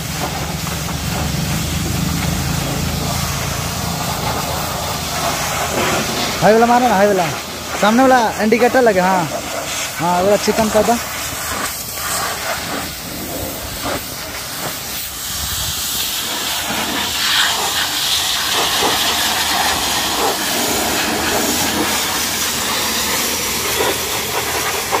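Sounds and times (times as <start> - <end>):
pressure washer spraying water: 0.0 - 25.0.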